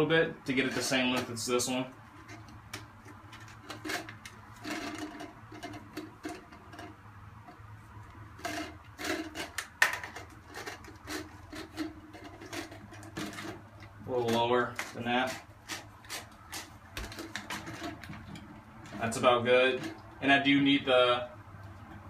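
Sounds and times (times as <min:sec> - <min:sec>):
plastic clicking and rubbing: 0:00.7 - 0:20.2.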